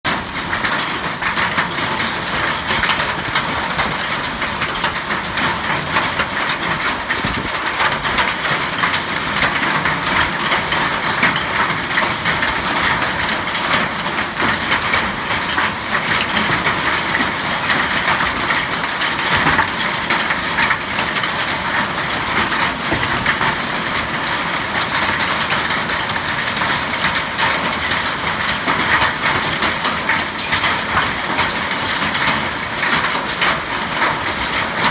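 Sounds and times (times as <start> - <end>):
hail and rain pelting: 0.1 - 34.9.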